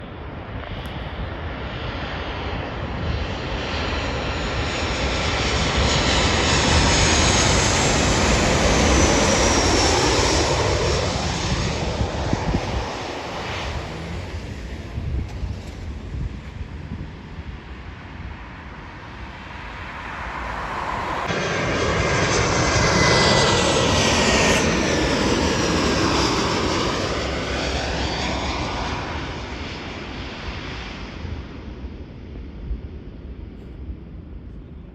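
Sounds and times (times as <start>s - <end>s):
jet airliner passing by: 0.0s - 34.9s.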